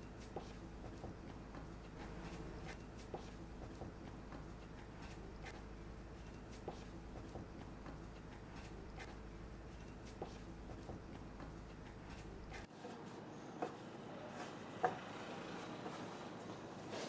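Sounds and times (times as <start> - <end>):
dough being kneaded: 0.0 - 17.0
low background hum: 0.0 - 17.0.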